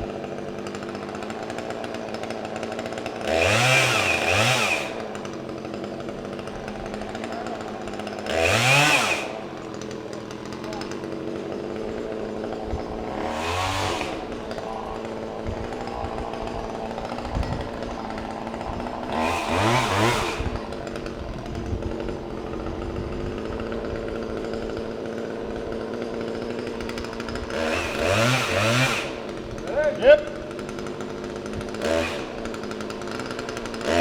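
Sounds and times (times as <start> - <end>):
chainsaw idling and revving: 0.0 - 34.0.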